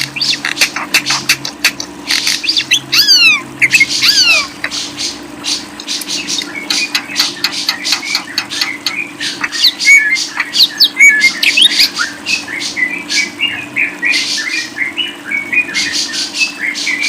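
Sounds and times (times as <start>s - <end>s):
songbird chirping and twittering: 0.0s - 17.0s
steady low hum: 0.0s - 17.0s.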